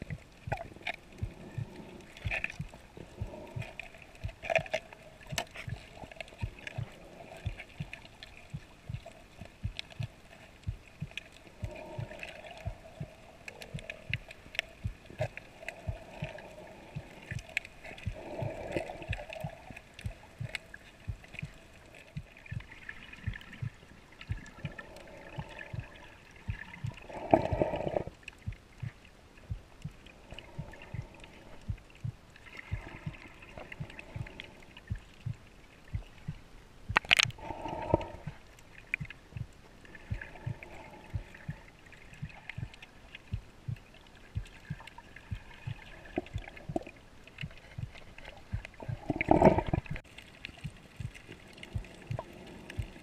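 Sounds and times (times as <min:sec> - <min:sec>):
muffled gurgling water: 0:00.0 - 0:53.0
underwater clicks and knocks: 0:00.0 - 0:53.0.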